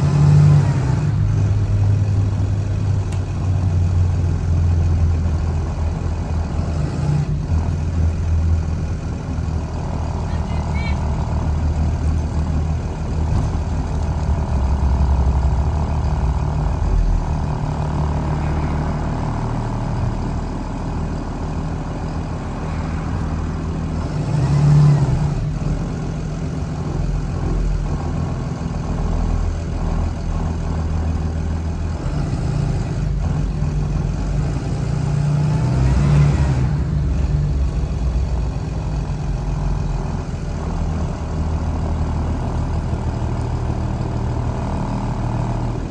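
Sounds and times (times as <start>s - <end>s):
bus engine running: 0.0s - 45.9s.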